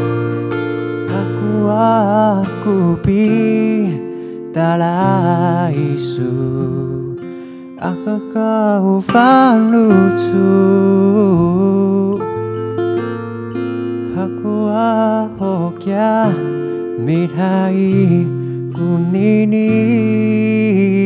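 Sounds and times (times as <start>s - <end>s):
man singing: 0.0s - 0.3s, 1.0s - 12.7s, 14.0s - 21.0s
acoustic guitar chords: 0.0s - 21.0s.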